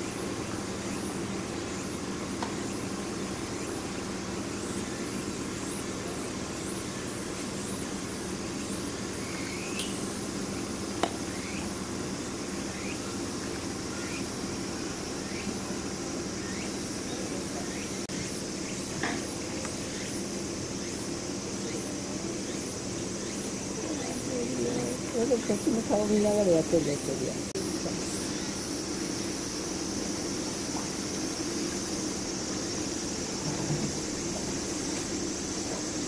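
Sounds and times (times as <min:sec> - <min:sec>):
insects chirping: 0:00.0 - 0:36.0.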